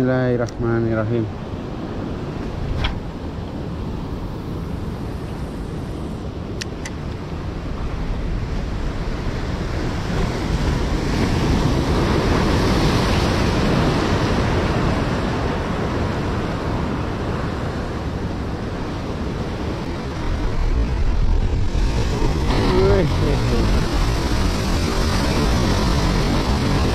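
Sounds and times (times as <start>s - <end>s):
sea surf rushing against shore: 0.0s - 26.9s.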